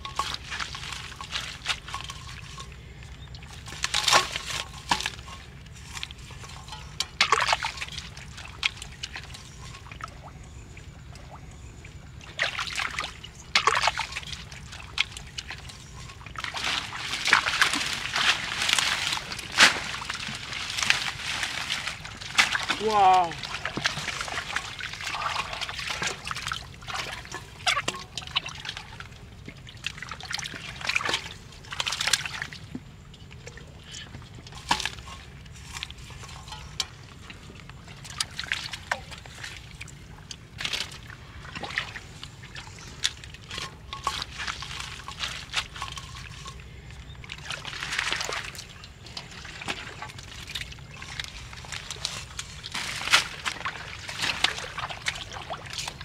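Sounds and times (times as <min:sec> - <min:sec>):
muddy water sloshing and splashing: 0:00.0 - 0:56.0.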